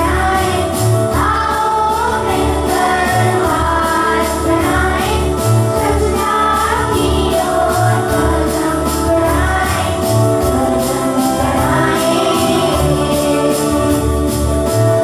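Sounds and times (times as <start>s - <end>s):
music with low beat: 0.0s - 15.0s
voices singing together: 0.0s - 15.0s.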